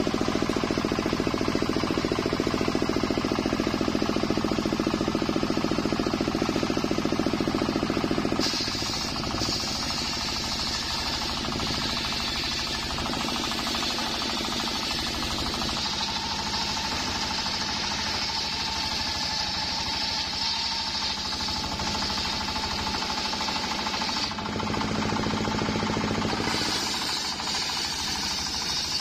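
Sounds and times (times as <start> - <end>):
engine pulsing: 0.0 - 29.0
saw blade cutting wood: 0.0 - 29.0.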